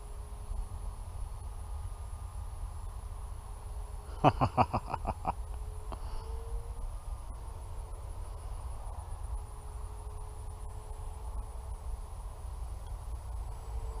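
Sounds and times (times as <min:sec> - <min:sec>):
distant model plane motor drone: 0:00.0 - 0:14.0
wind rumble on microphone: 0:00.0 - 0:14.0
high insect trill: 0:00.3 - 0:14.0.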